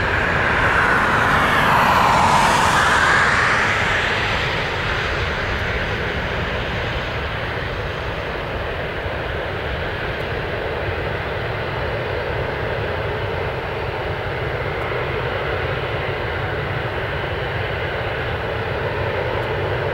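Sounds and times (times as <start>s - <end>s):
jet engines rumbling and hissing: 0.0s - 19.9s.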